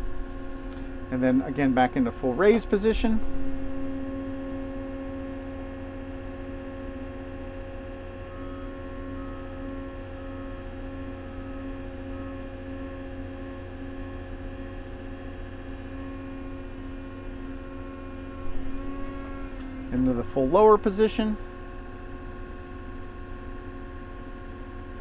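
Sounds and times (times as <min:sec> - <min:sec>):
diesel engine at high idle: 0:00.0 - 0:25.0.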